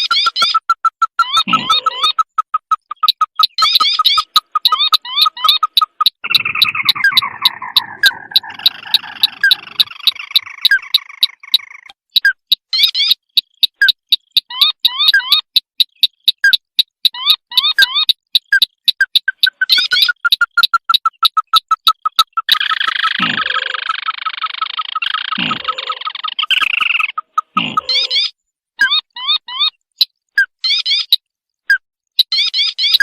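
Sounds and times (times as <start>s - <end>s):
fast clicking bird call: 0.0s - 33.0s
upward-sweeping bird chirps: 0.0s - 33.0s.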